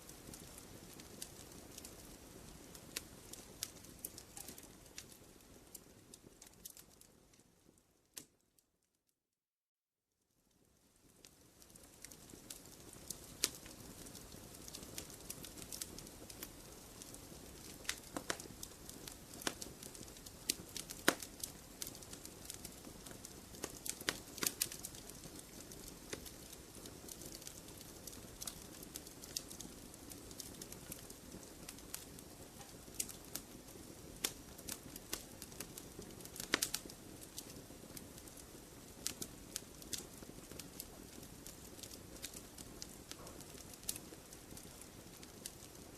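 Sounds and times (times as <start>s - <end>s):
wood fire crackling: 0.0s - 8.6s, 10.2s - 45.9s.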